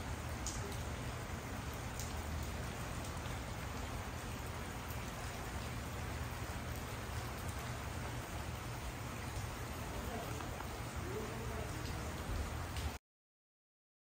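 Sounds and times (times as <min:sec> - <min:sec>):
single raindrops ticking: 0:00.0 - 0:13.0
steady rain hissing: 0:00.0 - 0:13.0.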